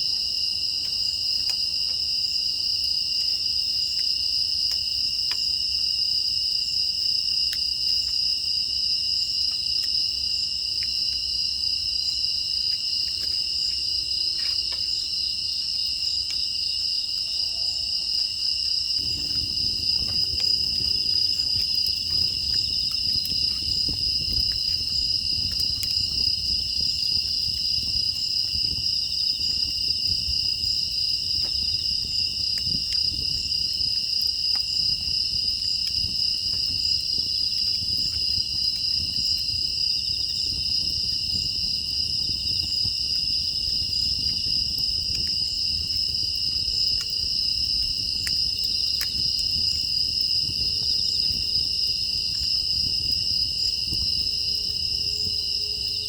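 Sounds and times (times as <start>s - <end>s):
crickets chirping: 0.0s - 56.0s
faint wood fire crackles: 0.0s - 56.0s.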